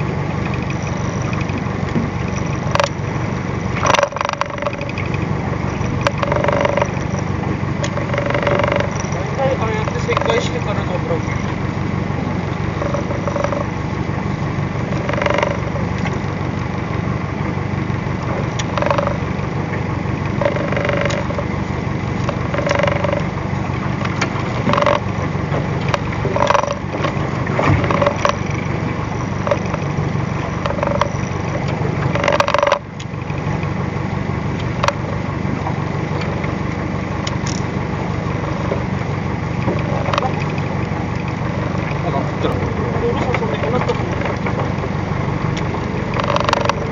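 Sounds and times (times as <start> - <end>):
boat engine running: 0.0 - 46.9.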